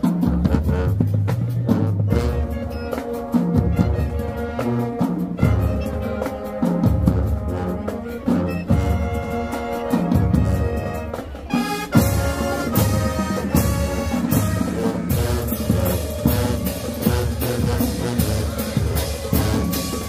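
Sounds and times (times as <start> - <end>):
marching band playing: 0.0 - 20.0
pulsing drumline: 0.0 - 20.0
brass chords: 0.1 - 20.0.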